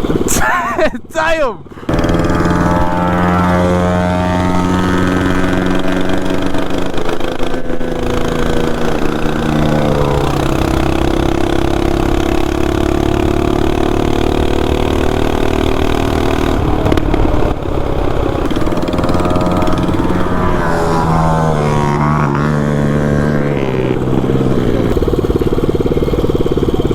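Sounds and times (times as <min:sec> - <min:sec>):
small gas engine revving: 0:00.0 - 0:00.9, 0:01.6 - 0:26.9.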